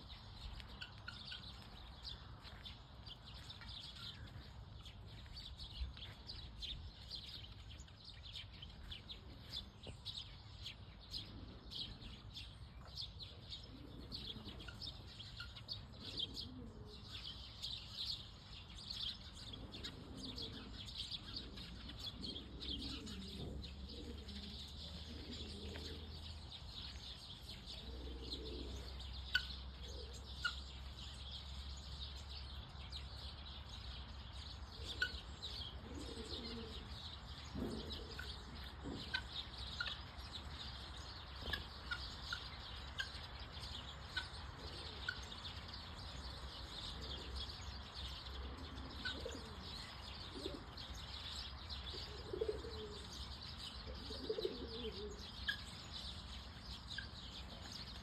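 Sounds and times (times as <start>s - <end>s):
small birds twittering: 0.0s - 58.0s
soft low bird calls: 0.0s - 58.0s.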